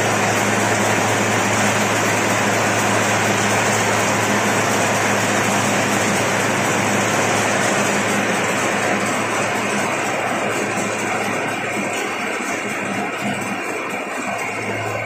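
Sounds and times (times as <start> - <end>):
machine running with low hum: 0.0 - 15.0.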